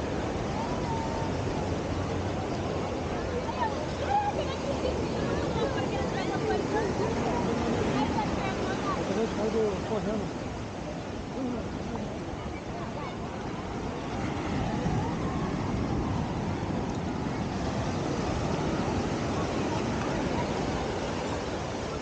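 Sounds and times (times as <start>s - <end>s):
faint crowd babble: 0.0s - 22.0s
surf washing over shallows: 0.0s - 22.0s.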